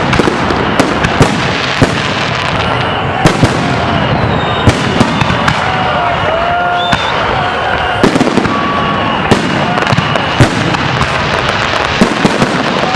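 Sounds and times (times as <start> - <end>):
crackling rumbling explosions: 0.0 - 12.9.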